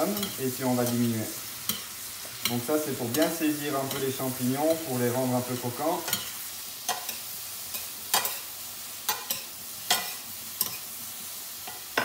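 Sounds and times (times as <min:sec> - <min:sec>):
metal spoons scraping pan: 0:00.0 - 0:08.5, 0:09.1 - 0:10.9
mushrooms sizzling in pan: 0:00.0 - 0:12.0.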